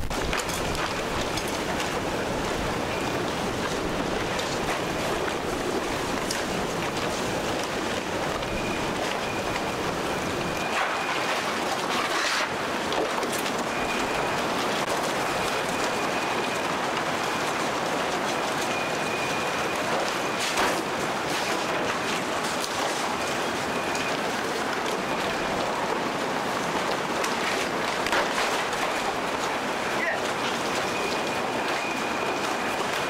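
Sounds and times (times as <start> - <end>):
wind and driving rain: 0.0 - 33.0.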